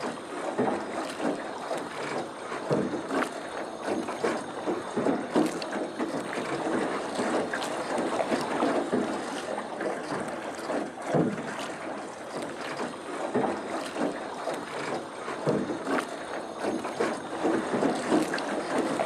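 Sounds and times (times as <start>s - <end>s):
water splashing against boat hull: 0.0s - 19.0s.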